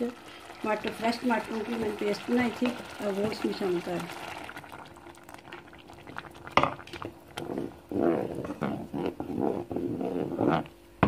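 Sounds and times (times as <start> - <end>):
spatula stirring thick soup: 0.2 - 10.7.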